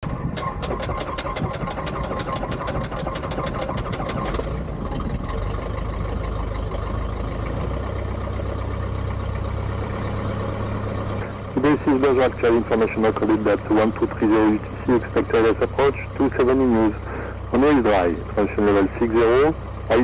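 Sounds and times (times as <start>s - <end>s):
small aircraft engine running: 0.0s - 20.0s.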